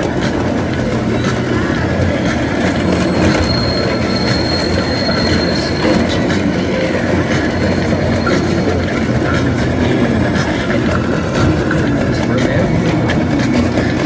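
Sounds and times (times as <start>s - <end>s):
high wheel squeal: 0.0s - 14.0s
train cars rumbling on track: 0.0s - 14.0s.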